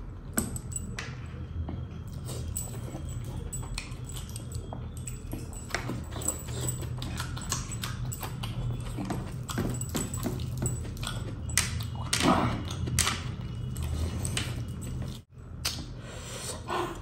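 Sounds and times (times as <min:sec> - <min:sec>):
low steady hum: 0:00.0 - 0:17.0
wet chewing and lip-smacking: 0:02.1 - 0:15.9.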